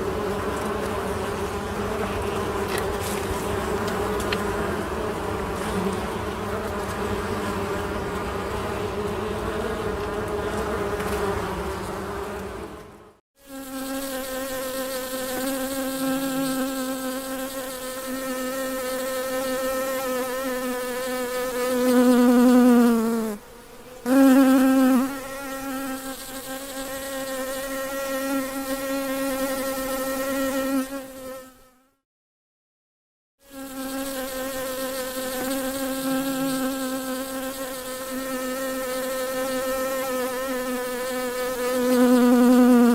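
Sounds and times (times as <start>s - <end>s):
honey bee buzzing: 0.0s - 32.0s, 33.4s - 42.9s.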